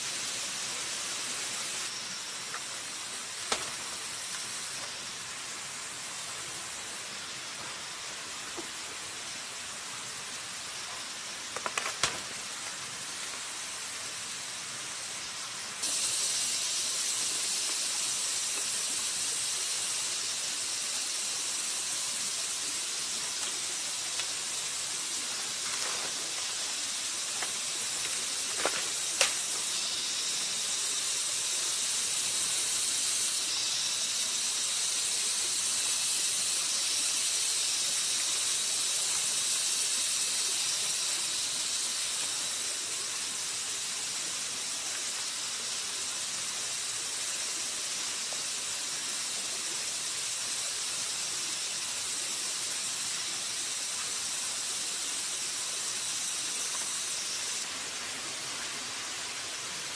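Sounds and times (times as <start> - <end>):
high-pitched insect drone: 0.0 - 59.6.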